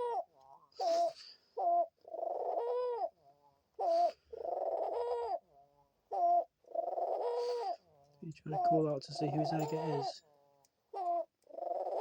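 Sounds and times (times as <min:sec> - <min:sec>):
dove cooing: 0:00.0 - 0:10.2, 0:11.0 - 0:12.0.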